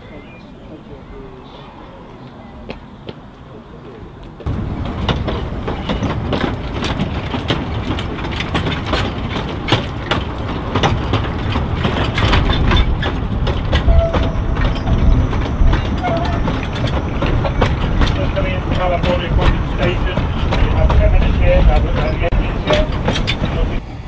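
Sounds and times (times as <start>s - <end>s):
sharp clicks of wheels: 4.2s - 23.8s
train wheels clattering on track: 4.3s - 23.8s.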